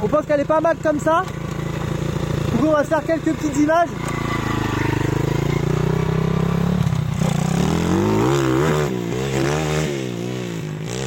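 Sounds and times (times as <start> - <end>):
motorbike engine revving: 0.0 - 11.0.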